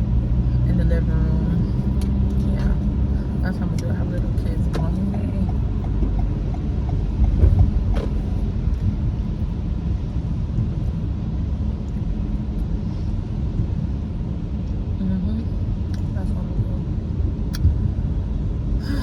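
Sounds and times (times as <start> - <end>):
car cabin road and engine rumble: 0.0 - 19.0.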